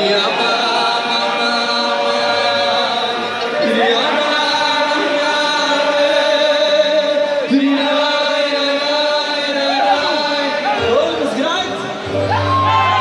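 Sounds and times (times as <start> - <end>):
male choir singing: 0.0 - 11.1
band playing dance music: 0.0 - 13.0
crowd singing along: 0.0 - 13.0.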